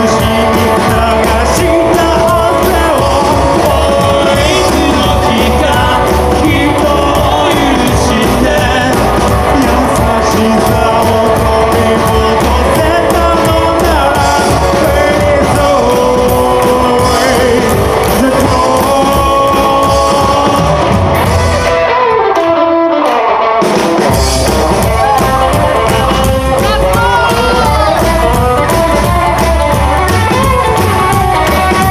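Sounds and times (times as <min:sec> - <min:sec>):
person singing: 0:00.0 - 0:23.4, 0:24.1 - 0:31.9
live rockabilly band: 0:00.0 - 0:31.9.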